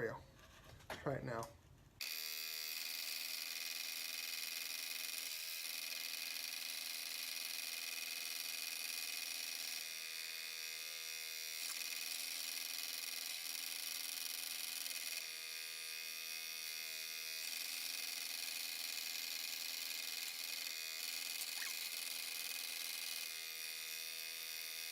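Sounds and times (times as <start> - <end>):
scroll saw cutting wood: 2.0 - 24.9.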